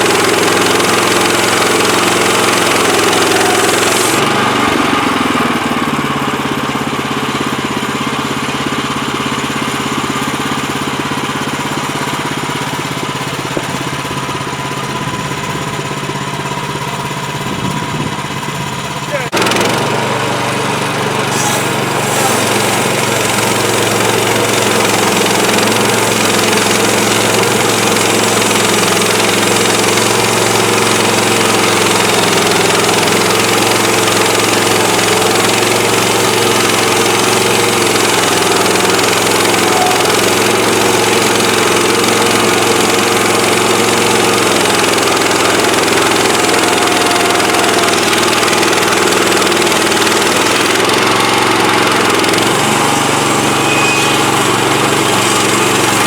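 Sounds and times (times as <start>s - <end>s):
sawmill gasoline engine running: 0.0s - 56.0s.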